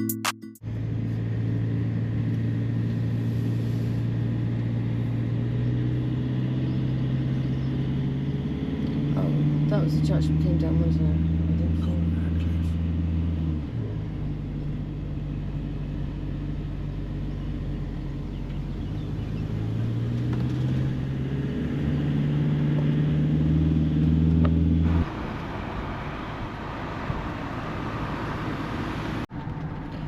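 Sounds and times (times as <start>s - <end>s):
vehicle engine humming: 0.0s - 30.0s
road and wind noise: 0.6s - 30.0s.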